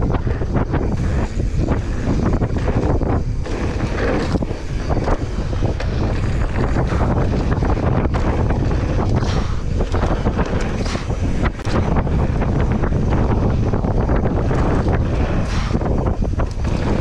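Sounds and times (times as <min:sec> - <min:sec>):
bike rattling over bumps: 0:00.0 - 0:17.0
tyres on dirt: 0:00.0 - 0:17.0
wind buffeting microphone: 0:00.0 - 0:17.0.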